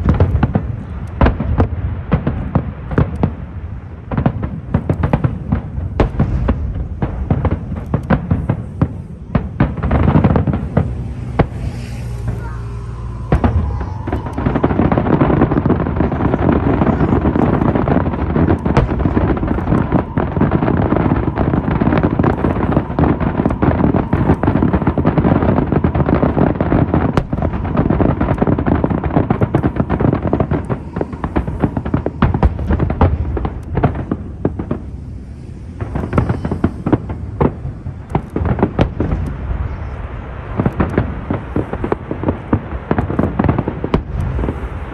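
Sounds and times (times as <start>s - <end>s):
fireworks crackling and booming: 0.0s - 44.9s.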